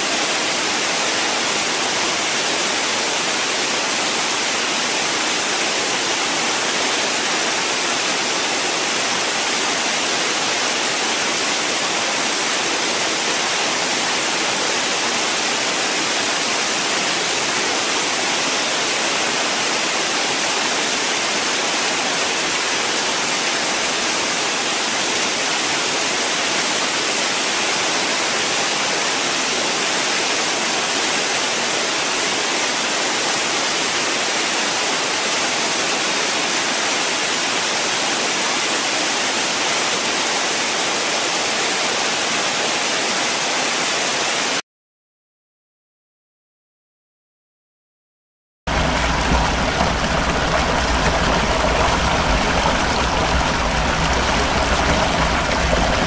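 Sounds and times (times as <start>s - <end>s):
waterfall rushing onto rocks: 0.0s - 44.6s, 48.7s - 56.0s.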